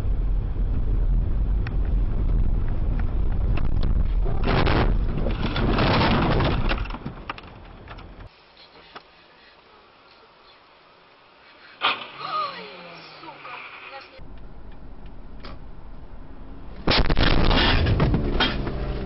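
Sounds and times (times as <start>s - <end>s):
car road and engine rumble: 0.0s - 8.8s, 9.6s - 19.0s.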